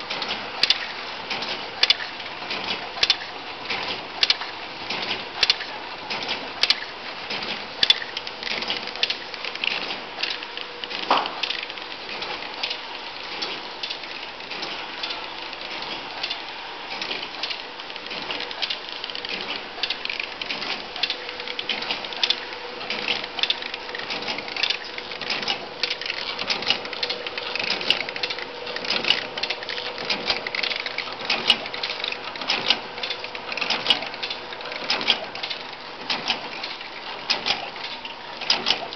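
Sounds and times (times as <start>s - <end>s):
packaging machine clicking: 0.1s - 38.9s.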